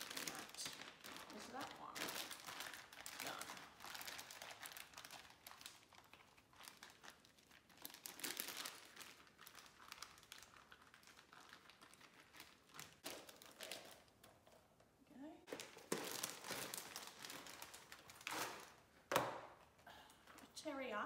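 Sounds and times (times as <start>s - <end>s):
plastic bag crinkling: 0.0s - 14.7s, 15.5s - 20.6s.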